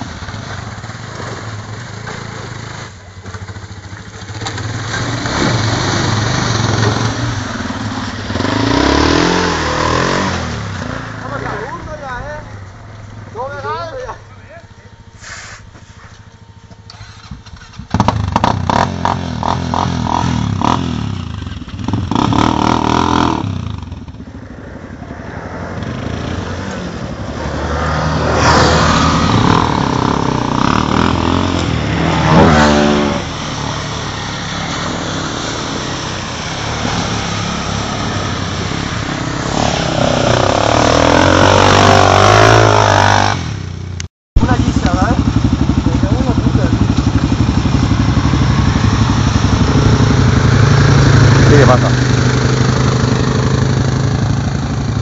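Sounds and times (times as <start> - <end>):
quad bike engines revving: 0.0 - 55.0.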